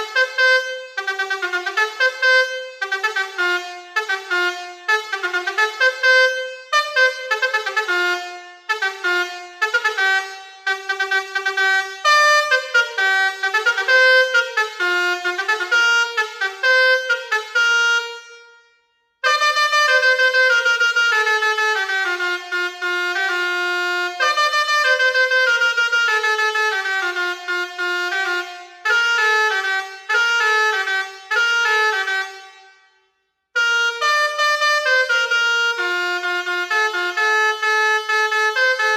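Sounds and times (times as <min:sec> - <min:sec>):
musical air horn melodies: 0:00.0 - 0:38.9.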